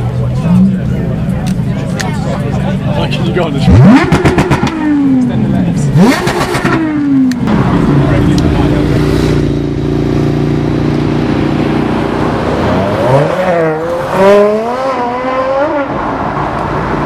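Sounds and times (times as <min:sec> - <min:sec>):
car engine accelerating hard: 0:02.9 - 0:17.0.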